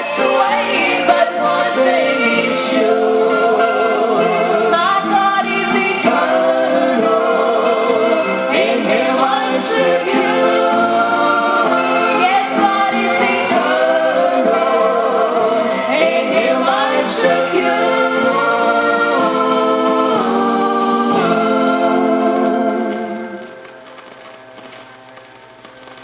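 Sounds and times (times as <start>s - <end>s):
gospel group singing in harmony: 0.0s - 23.7s.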